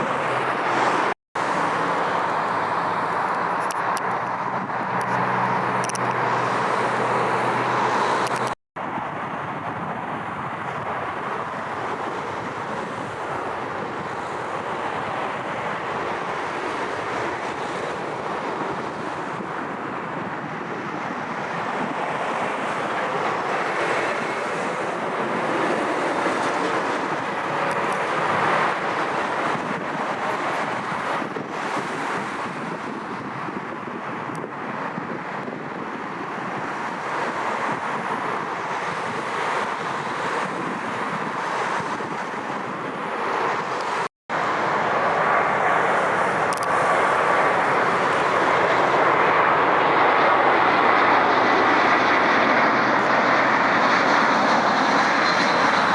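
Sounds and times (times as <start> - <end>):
jet engine roar: 0.0 - 55.9.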